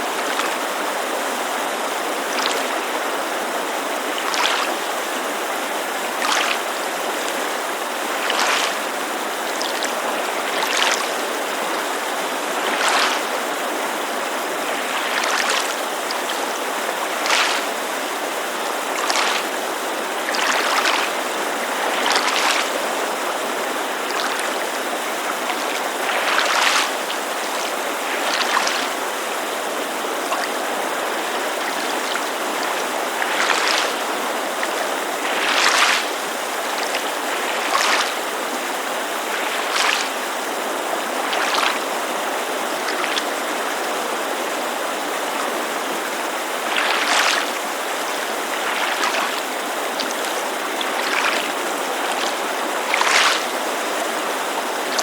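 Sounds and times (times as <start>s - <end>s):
creek rushing: 0.0s - 55.0s
waves lapping against shore: 0.0s - 55.0s.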